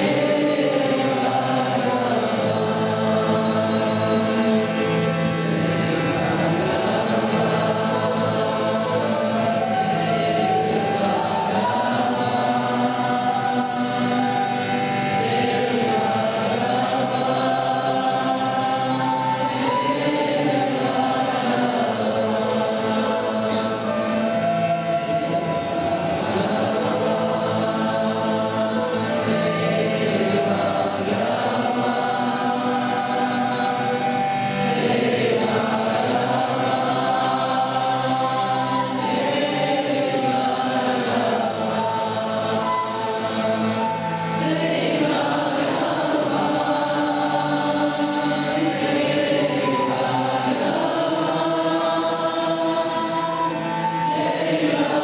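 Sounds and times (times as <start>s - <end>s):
group singing devotional chant: 0.0s - 55.0s.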